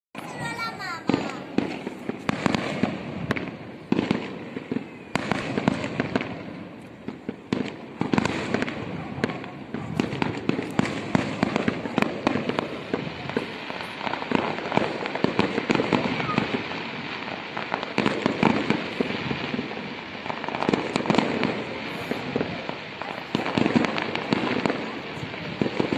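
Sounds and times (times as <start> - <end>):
fireworks bangs and crackles: 0.2 - 25.9.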